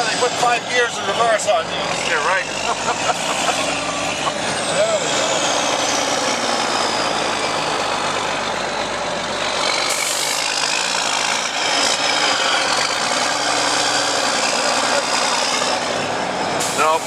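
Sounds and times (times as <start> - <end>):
diesel truck engine reversing: 0.0 - 17.0.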